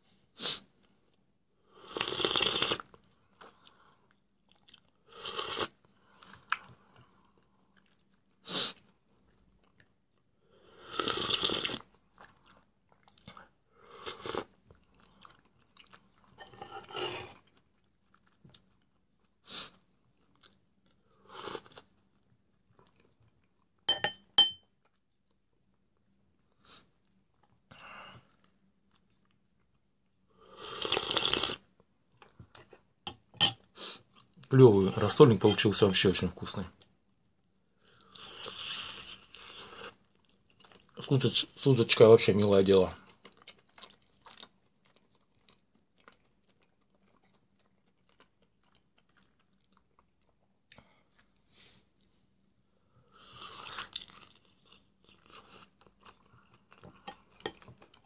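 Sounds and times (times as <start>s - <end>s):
man eating soup and chewing: 0.4s - 58.0s.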